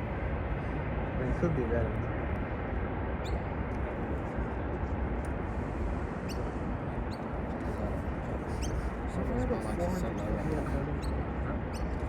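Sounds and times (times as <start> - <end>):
low rumbling outdoor noise: 0.0 - 12.0.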